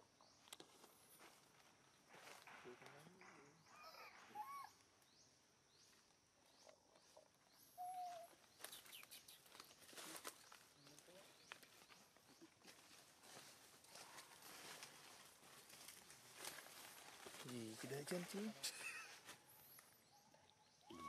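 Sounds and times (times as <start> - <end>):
faint animal calls and chirps: 2.6 - 21.0.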